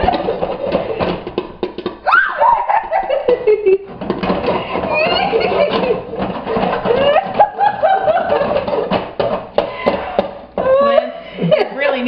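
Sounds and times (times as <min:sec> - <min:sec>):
people laughing and giggling: 0:00.0 - 0:01.3, 0:02.4 - 0:12.0
popcorn popping in a pan: 0:00.0 - 0:10.8.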